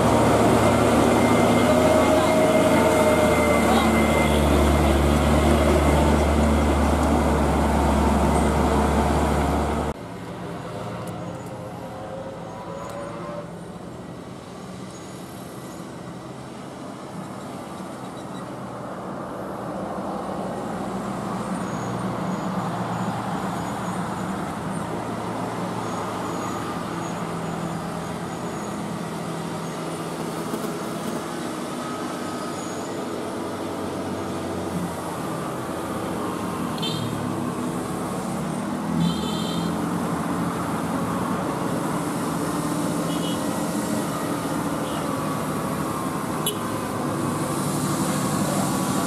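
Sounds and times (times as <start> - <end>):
heavy truck diesel engine drone: 0.0 - 49.0.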